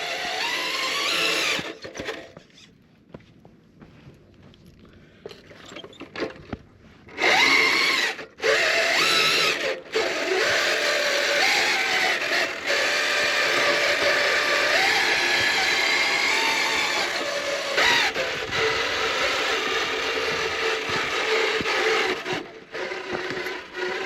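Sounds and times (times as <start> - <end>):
electric motor whining: 0.0 - 2.7, 7.1 - 24.0.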